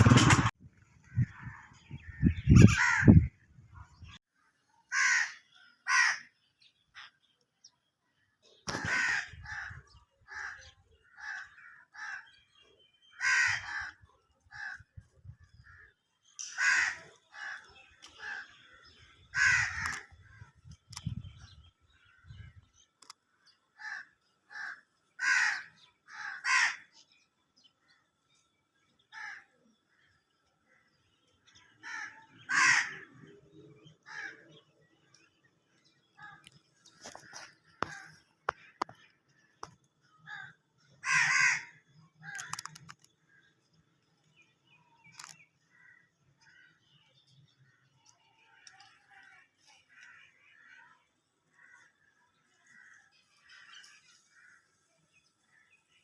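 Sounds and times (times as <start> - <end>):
birds calling loudly: 0.0 - 7.4, 8.2 - 56.0.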